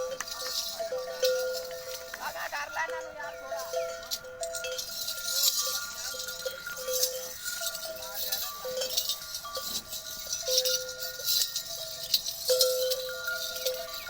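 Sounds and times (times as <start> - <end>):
cowbells clanking: 0.0 - 14.0.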